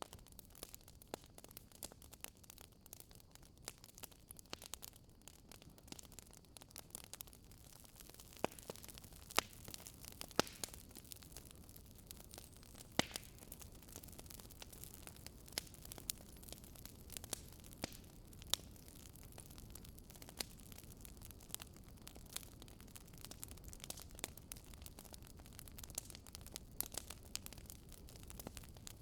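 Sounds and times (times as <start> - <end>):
fire crackling and popping: 0.0 - 29.0
fire soft hiss: 0.6 - 29.0.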